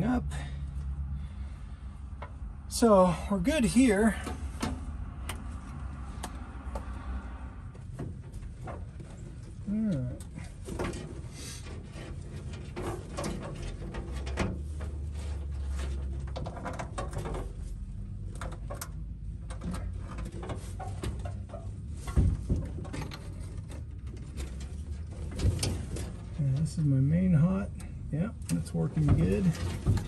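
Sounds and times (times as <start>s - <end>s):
wiring clicks and rustles: 3.5s - 30.0s.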